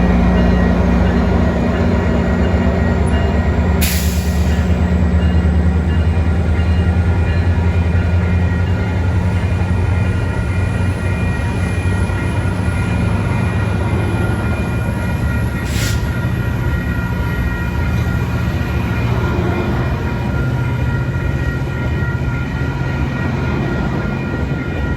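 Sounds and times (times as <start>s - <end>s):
train rolling past: 0.0s - 24.9s.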